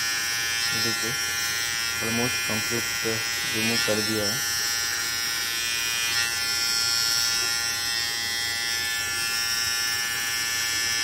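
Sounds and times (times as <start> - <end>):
beard trimmer buzzing: 0.0 - 11.0.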